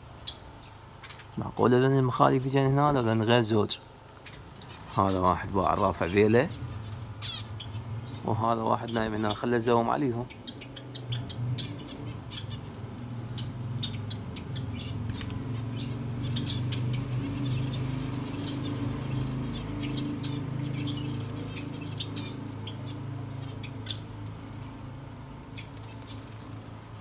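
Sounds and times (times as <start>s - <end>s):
bird ticks and chirps: 0.0s - 27.0s
birds fluttering wings: 0.0s - 27.0s
high falling bird calls: 0.0s - 27.0s
steady low hum: 0.0s - 27.0s.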